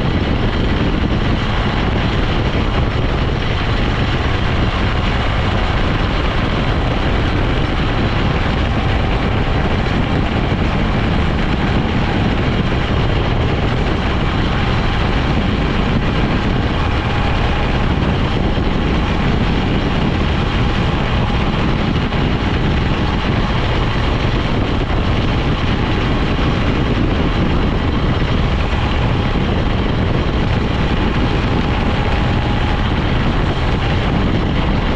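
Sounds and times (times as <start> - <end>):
faint steady whine: 0.0 - 34.9
vehicle engine and road rumble: 0.0 - 34.9.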